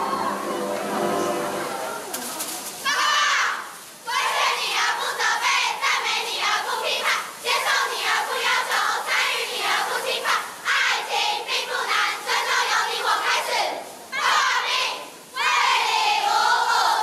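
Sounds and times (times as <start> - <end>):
cheerleaders chanting in unison: 2.8 - 17.0.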